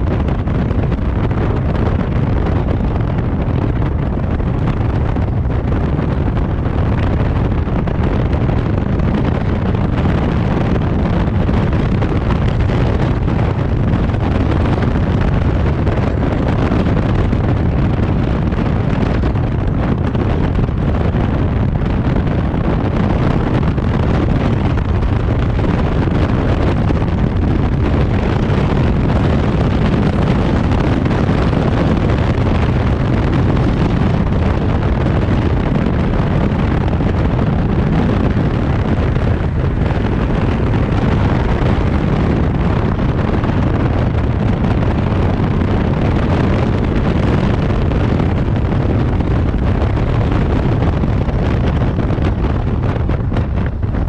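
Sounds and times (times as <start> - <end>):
road noise: 0.0 - 54.0
wind rumble on microphone: 0.0 - 54.0.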